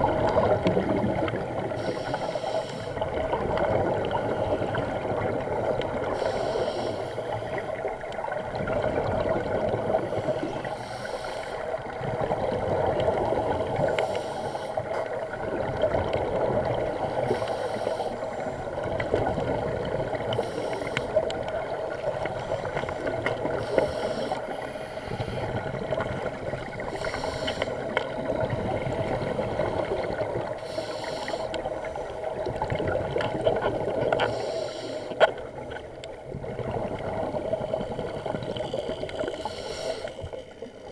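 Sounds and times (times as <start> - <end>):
muffled underwater hum: 0.0 - 40.9.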